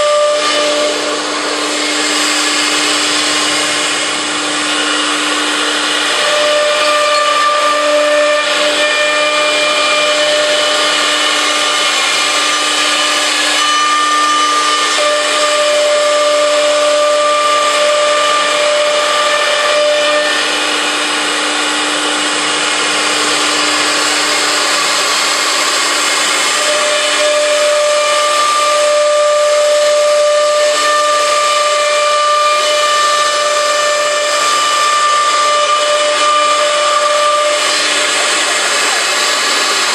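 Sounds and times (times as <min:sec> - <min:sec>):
cnc router cutting wood panel: 0:00.0 - 0:39.9.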